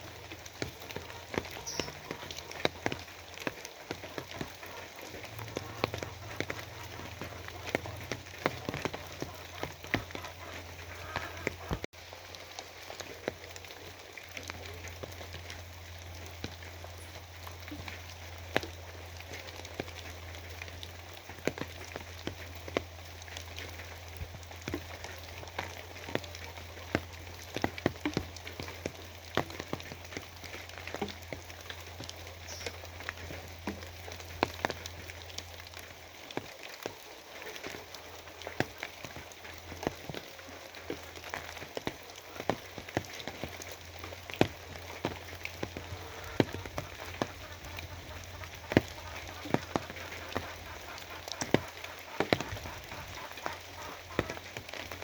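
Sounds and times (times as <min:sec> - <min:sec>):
raindrops tapping on a surface: 0:00.0 - 0:55.0.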